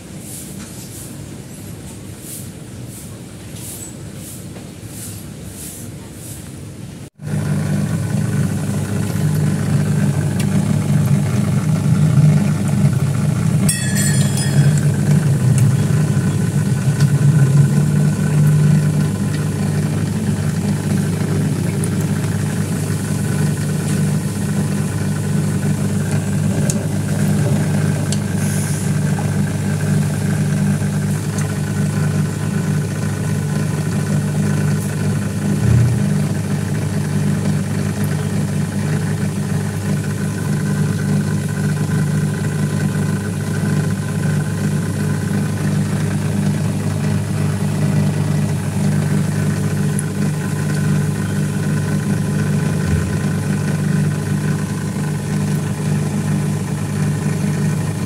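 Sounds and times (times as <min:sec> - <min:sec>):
water pump electric hum: 0:00.0 - 0:58.0.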